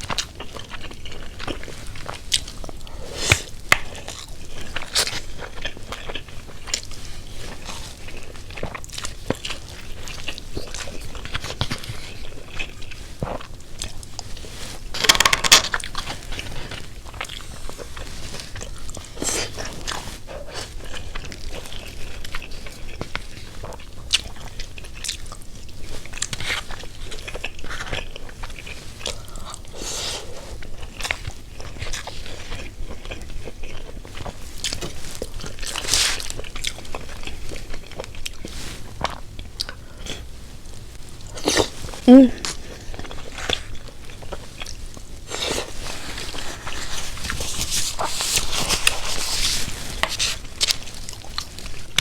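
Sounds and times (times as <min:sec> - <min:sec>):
person chewing food: 0:00.0 - 0:52.0
small crunches: 0:00.0 - 0:52.0.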